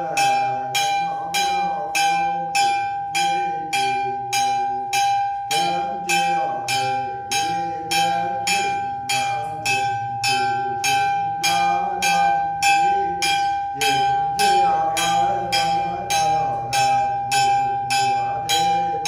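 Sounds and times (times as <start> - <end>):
person chanting: 0.0 - 19.0
ritual bell ringing: 0.0 - 19.0.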